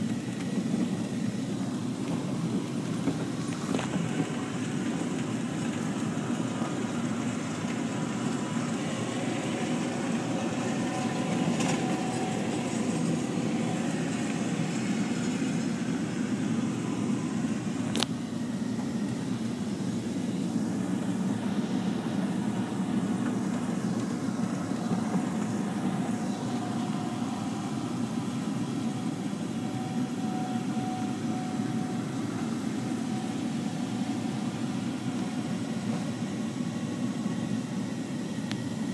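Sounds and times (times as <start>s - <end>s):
machinery engine drone: 0.0s - 38.9s.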